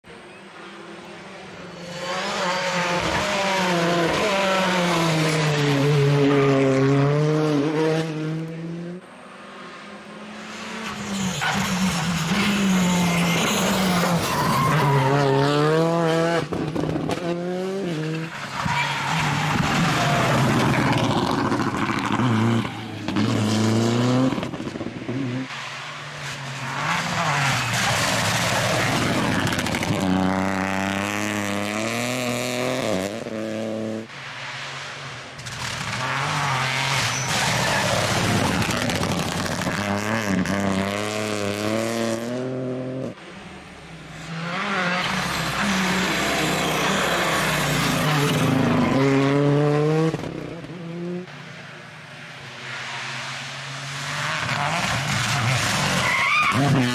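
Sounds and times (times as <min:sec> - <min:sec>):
rally car engines revving: 0:00.1 - 0:56.9.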